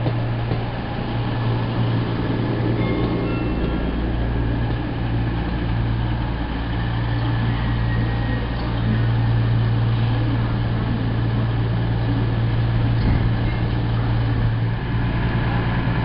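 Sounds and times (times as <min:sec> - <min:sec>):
low hum: 0:00.0 - 0:16.0
train diesel engines running: 0:00.0 - 0:16.0.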